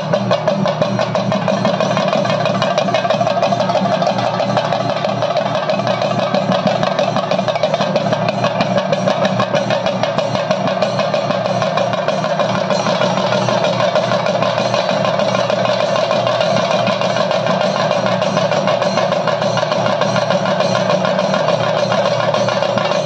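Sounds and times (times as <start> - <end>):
drums in fast roll: 0.0 - 23.0.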